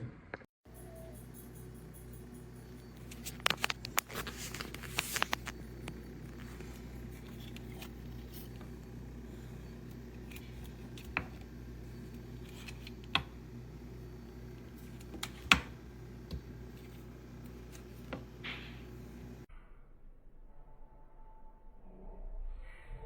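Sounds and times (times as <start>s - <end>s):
steady low hum: 0.7s - 19.5s.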